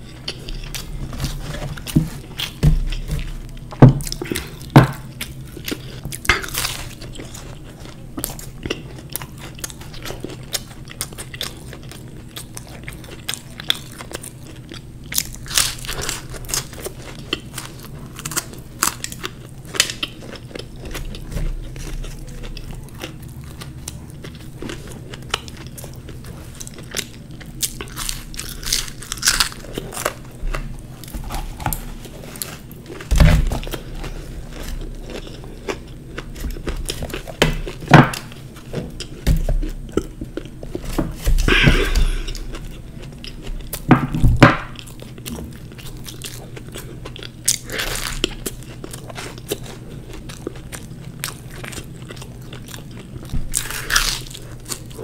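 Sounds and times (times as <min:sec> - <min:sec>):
crunching pastry: 0:00.0 - 0:55.0.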